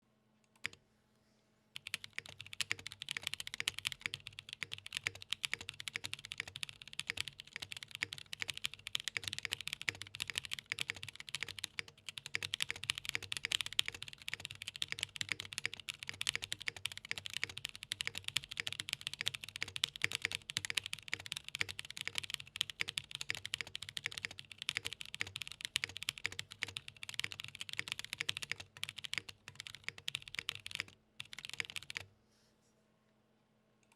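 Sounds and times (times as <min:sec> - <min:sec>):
fast typing on mechanical keyboard: 0:01.8 - 0:32.1.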